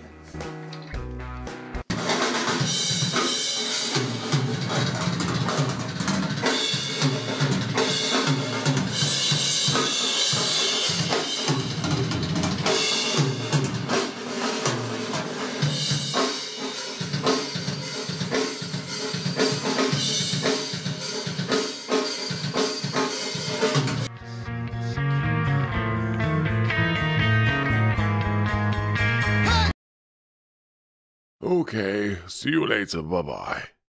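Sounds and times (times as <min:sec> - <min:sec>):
drum kit rock beat: 0:00.0 - 0:29.7.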